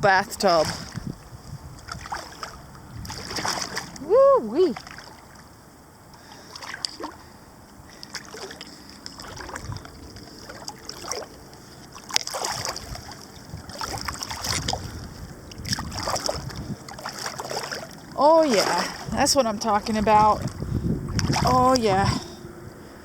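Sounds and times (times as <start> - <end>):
small waves lapping: 0.0 - 23.0
water splashing and sloshing: 0.0 - 23.0.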